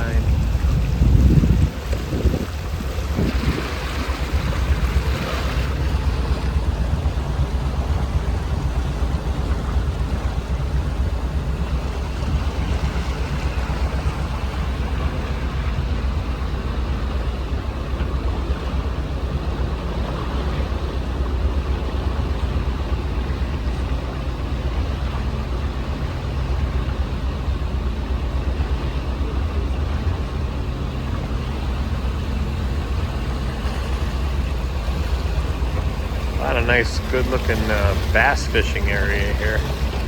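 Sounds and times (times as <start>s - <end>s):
boat motor droning: 0.0s - 40.0s
wind and water hiss: 0.0s - 40.0s.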